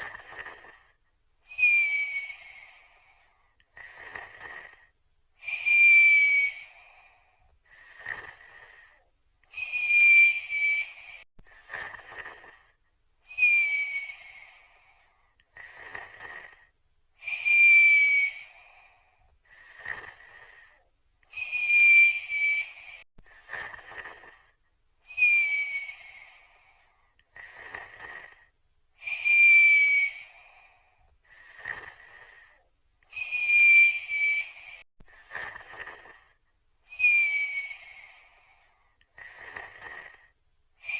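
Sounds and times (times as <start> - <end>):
snoring with a whistle: 0.0 - 40.9.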